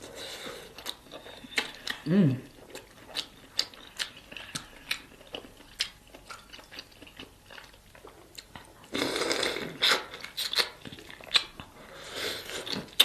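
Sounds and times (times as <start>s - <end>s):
chewing: 0.2s - 13.0s.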